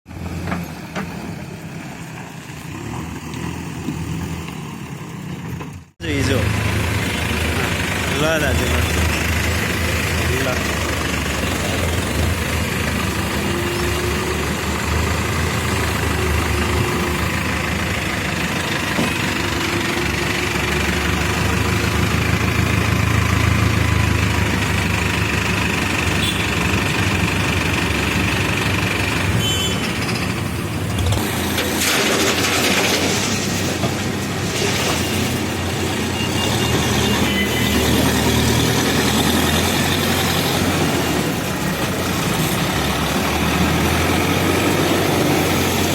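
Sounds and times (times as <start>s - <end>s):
diesel engine running: 0.1s - 45.9s.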